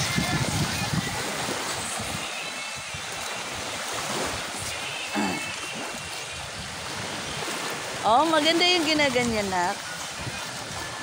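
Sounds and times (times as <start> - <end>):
small waves lapping on shore: 0.0 - 11.0.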